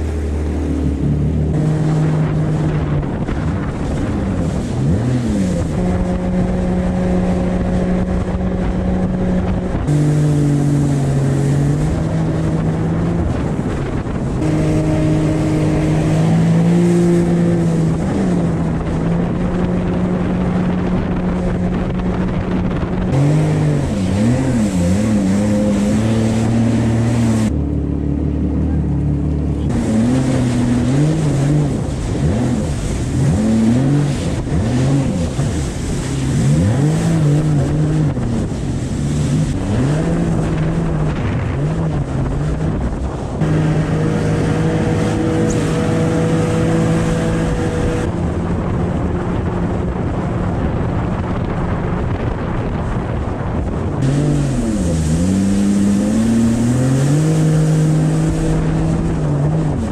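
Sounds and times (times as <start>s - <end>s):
jet ski engine running: 0.0s - 59.9s
wind and water rushing: 0.0s - 59.9s.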